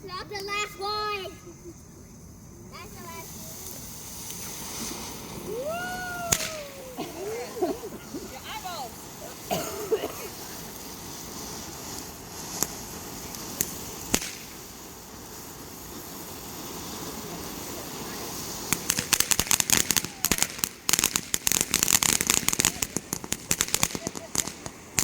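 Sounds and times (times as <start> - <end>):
fireworks popping and crackling: 0.0 - 25.0.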